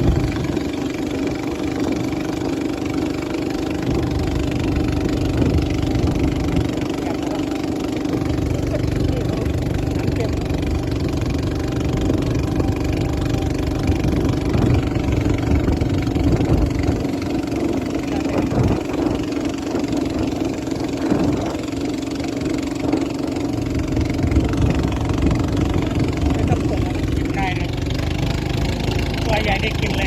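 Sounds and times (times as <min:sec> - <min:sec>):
boat engine running: 0:00.0 - 0:30.0.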